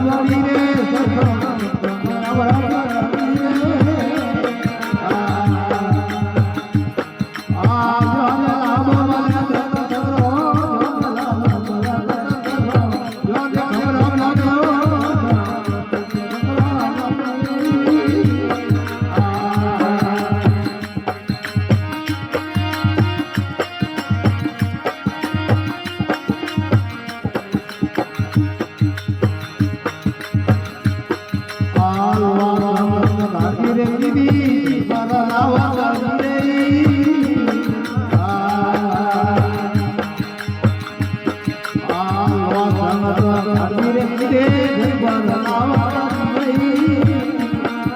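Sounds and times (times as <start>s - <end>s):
hand drum beat: 0.0s - 47.9s.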